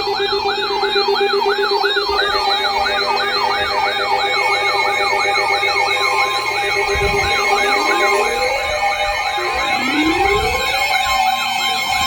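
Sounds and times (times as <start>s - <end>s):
electronic yelp siren: 0.0s - 12.0s
steady alarm tones: 0.0s - 12.0s.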